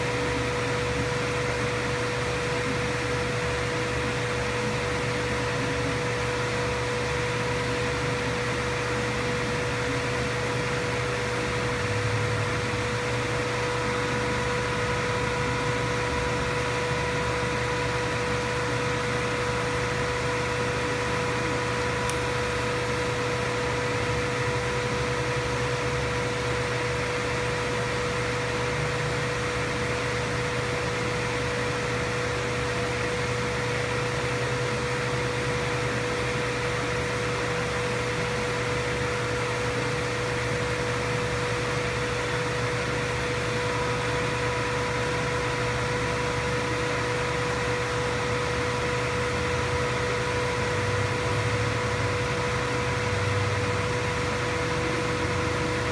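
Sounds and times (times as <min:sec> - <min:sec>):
welder electrical hum: 0:00.0 - 0:55.9.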